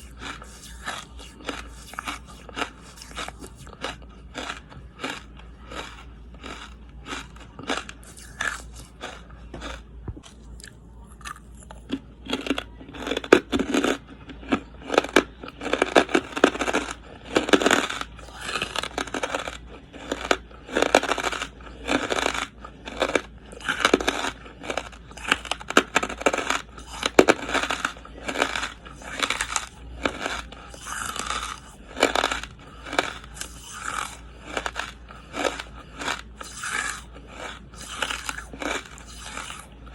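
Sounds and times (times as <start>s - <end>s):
person chewing charcoal crunching: 0.0s - 39.9s.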